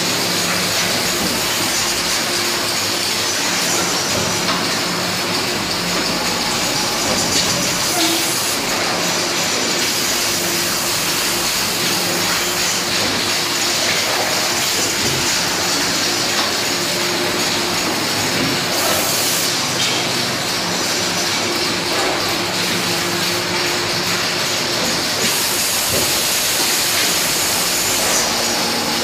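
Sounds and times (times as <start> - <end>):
machine hum and rattle: 0.0 - 29.0.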